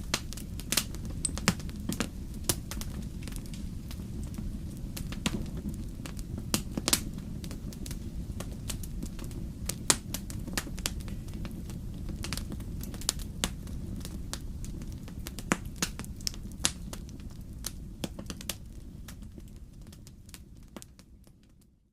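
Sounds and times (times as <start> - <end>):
wood fire burning: 0.0 - 21.8.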